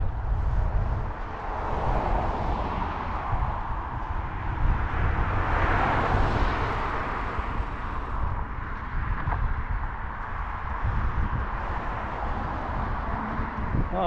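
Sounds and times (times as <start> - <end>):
road traffic noise: 0.0 - 14.0
wind buffeting microphone: 0.0 - 14.0
vehicle passing: 0.3 - 14.0.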